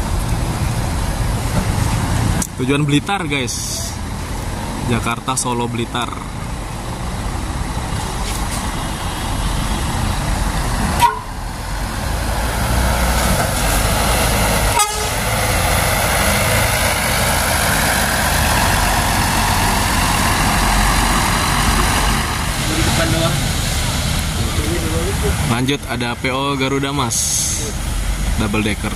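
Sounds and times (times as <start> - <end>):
bus diesel engine rumbling: 0.0 - 28.9.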